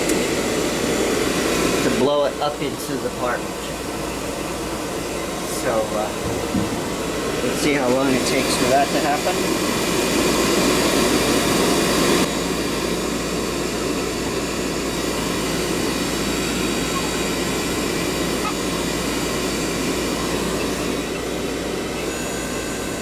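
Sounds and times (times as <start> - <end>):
furnace burner rushing: 0.0 - 23.0.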